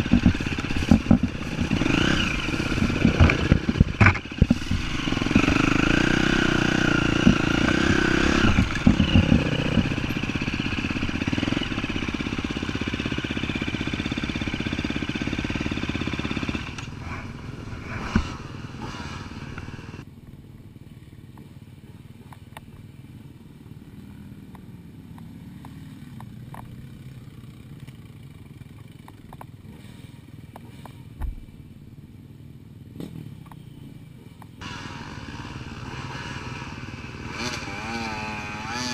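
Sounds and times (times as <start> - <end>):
motorcycle engine with rattling: 0.0 - 38.9.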